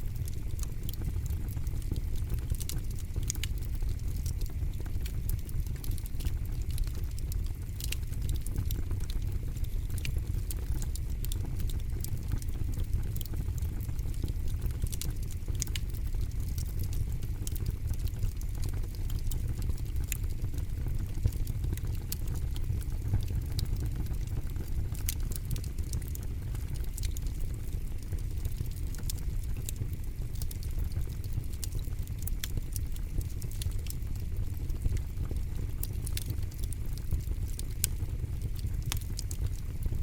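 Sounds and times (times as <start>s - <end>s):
burning wood crackling and popping: 0.0s - 40.0s
low rumble of flame: 0.0s - 40.0s.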